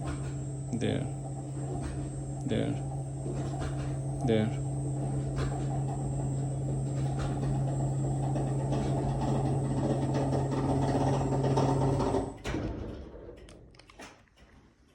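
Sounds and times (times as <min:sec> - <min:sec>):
motor stopping click: 0:00.0 - 0:12.4
lift motor humming: 0:00.0 - 0:12.5
lift noises: 0:00.0 - 0:13.6.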